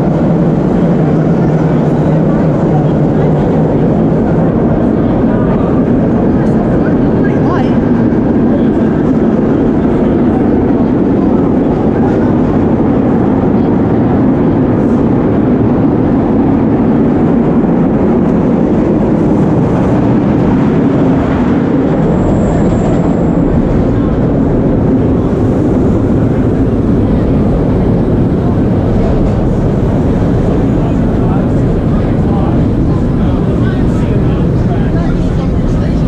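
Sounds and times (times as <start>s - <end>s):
subway car wheels rumbling: 0.0s - 36.0s.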